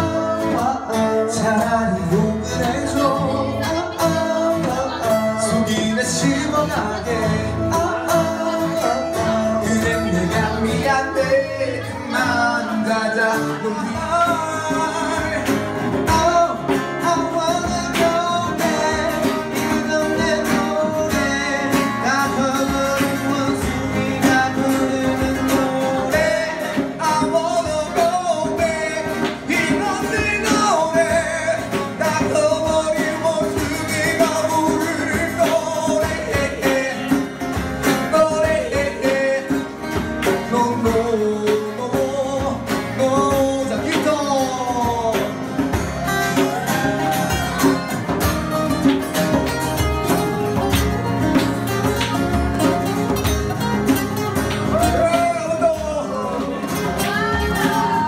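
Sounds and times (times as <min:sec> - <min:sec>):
acoustic guitar: 0:00.0 - 0:58.0
man singing: 0:00.0 - 0:58.0.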